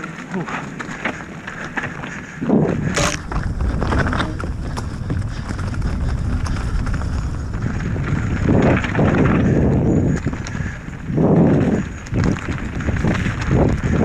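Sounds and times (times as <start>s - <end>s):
bike knocking and rattling: 0.0s - 14.0s
bike tyres rolling over rocks: 0.0s - 14.0s
wind rumble on microphone: 1.0s - 14.0s.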